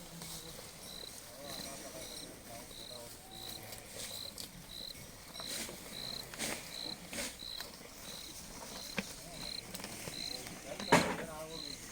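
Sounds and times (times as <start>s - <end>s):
rustling: 0.0s - 11.9s
cricket chirping: 0.8s - 11.9s.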